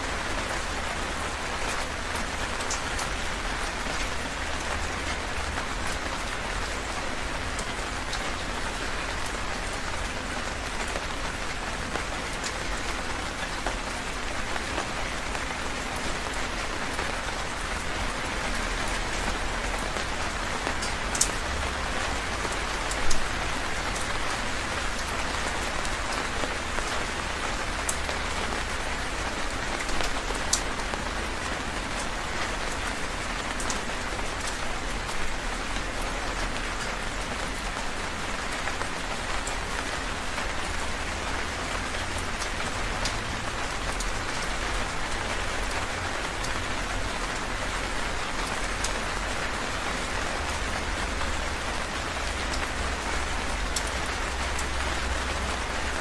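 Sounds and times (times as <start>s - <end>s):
heavy rain falling: 0.0s - 56.0s
raindrops pattering on surfaces: 0.0s - 56.0s.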